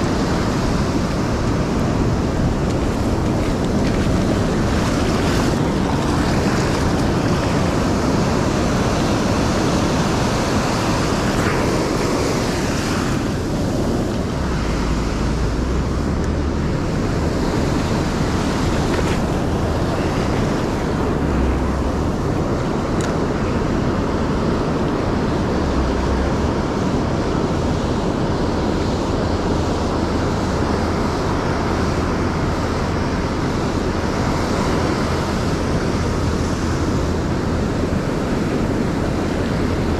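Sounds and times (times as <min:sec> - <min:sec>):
ocean surf washing on beach: 0:00.0 - 0:39.9
wind rumbling on microphone: 0:00.0 - 0:39.9.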